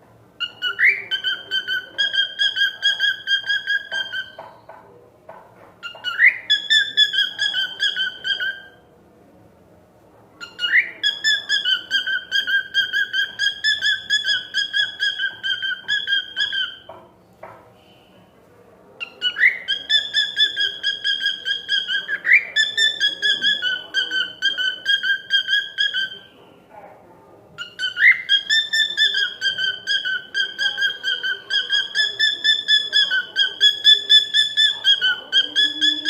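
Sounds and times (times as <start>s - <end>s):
cockatiel whistling: 0.4s - 4.4s, 5.8s - 8.7s, 10.4s - 16.9s, 19.0s - 26.3s, 27.6s - 36.0s.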